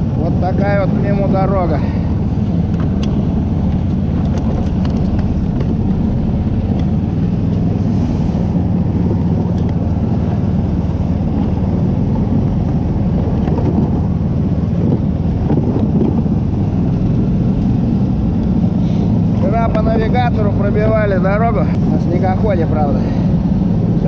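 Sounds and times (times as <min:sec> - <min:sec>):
tracked vehicle engine droning: 0:00.0 - 0:24.0.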